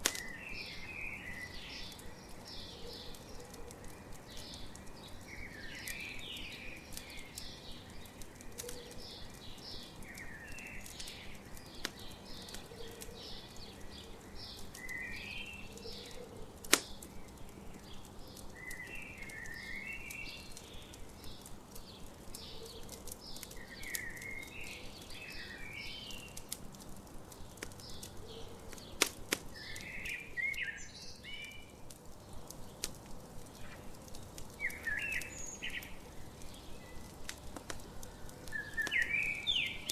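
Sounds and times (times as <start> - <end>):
campfire crackling: 0.0 - 39.9
fire popping: 0.0 - 39.9
birds chirping and singing: 0.1 - 39.9.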